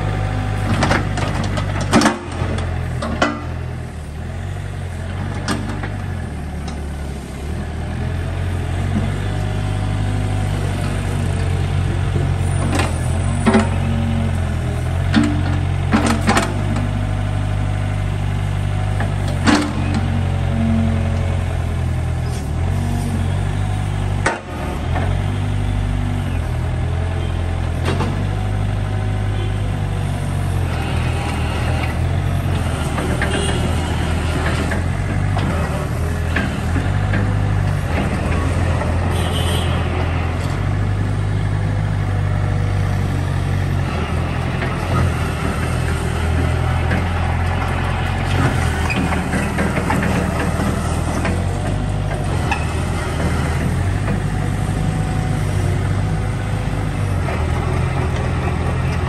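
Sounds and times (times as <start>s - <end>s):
excavator diesel engine running: 0.0s - 59.0s
hydraulic boom and bucket working: 0.0s - 59.0s.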